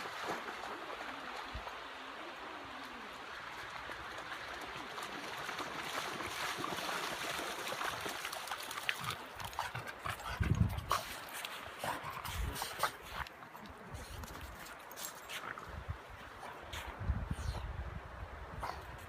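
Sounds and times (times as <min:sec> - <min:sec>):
sea and wind hiss: 0:00.0 - 0:19.0.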